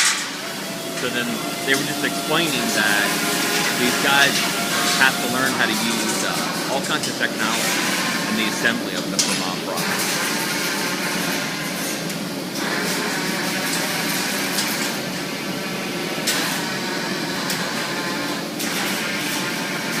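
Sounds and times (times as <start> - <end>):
factory machinery running: 0.0 - 20.0.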